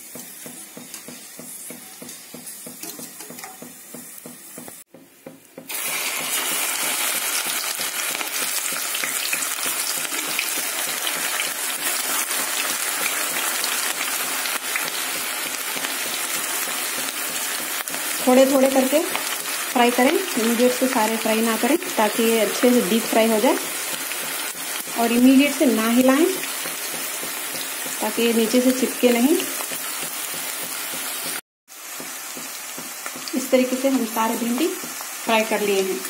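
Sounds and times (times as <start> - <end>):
oil sizzling and bubbling: 0.0 - 36.0.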